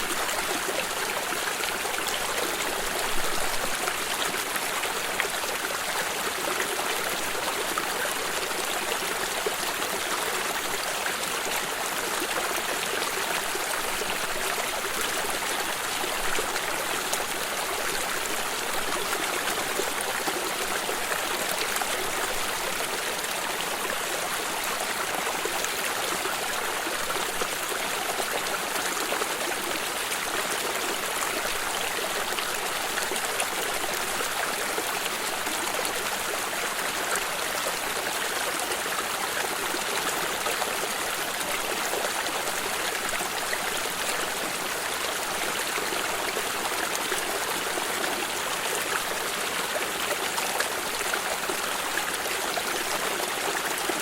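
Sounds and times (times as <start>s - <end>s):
water stream flowing and trickling: 0.0s - 54.0s.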